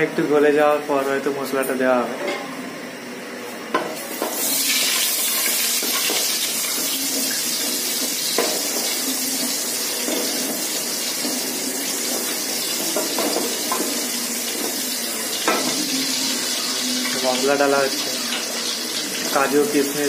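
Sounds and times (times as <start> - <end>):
ghee sizzling in a pot: 3.9 - 20.0.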